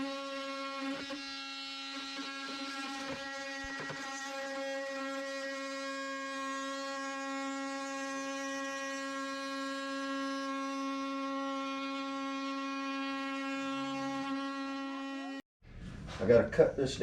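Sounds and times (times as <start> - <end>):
power tool motor buzzing: 0.0 - 15.4.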